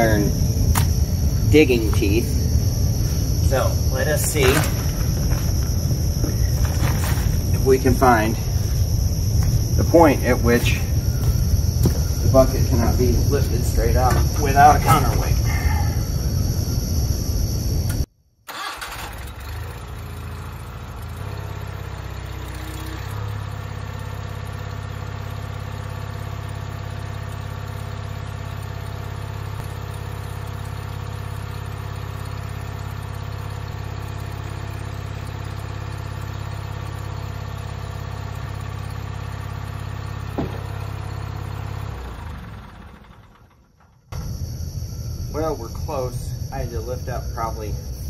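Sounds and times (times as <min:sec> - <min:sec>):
garden tractor engine running: 0:00.0 - 0:48.0.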